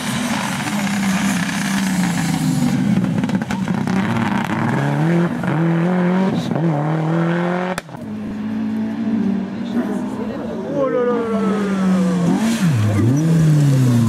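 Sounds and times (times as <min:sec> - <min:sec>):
another car engine: 0:00.0 - 0:10.6, 0:11.3 - 0:14.0
rally car engine accelerating: 0:00.0 - 0:14.0.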